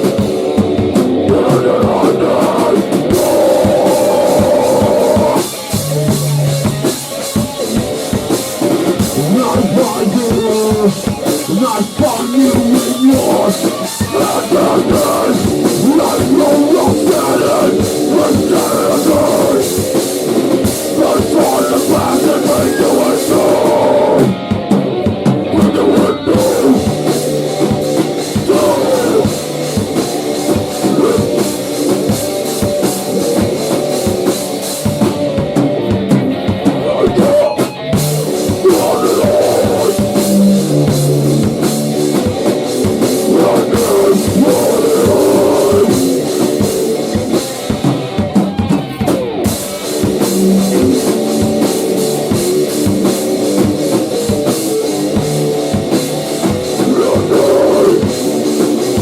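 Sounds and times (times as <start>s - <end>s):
grunge rock band playing: 0.0s - 59.0s.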